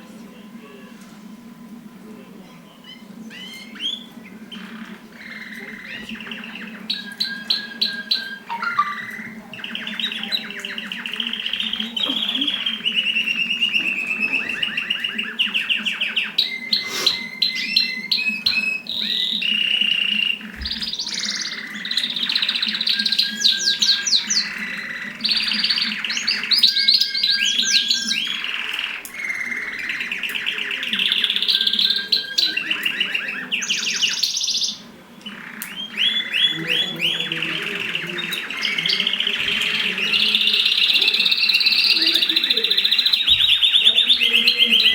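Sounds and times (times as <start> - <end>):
canary singing trills: 2.7 - 44.9.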